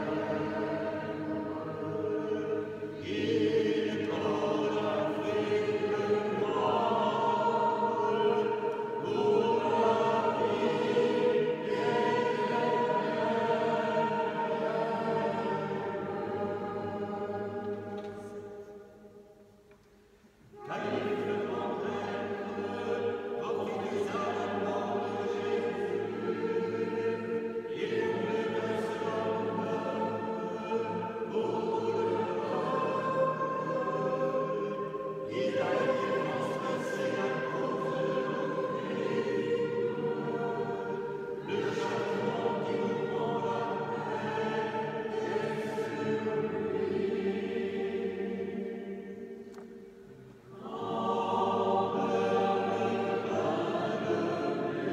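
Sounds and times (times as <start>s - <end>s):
choir singing in harmony: 0.0s - 19.6s, 20.5s - 54.9s.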